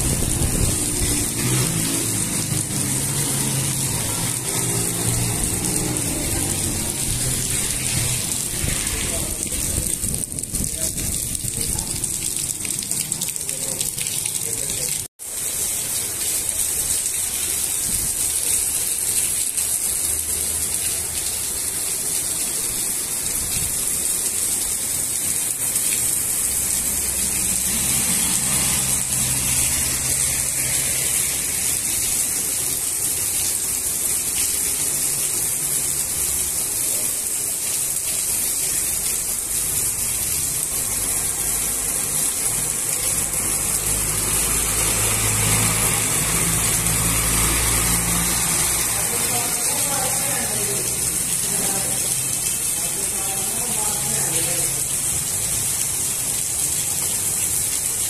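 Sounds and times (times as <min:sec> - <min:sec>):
heavy rain on wet pavement: 0:00.0 - 0:58.0.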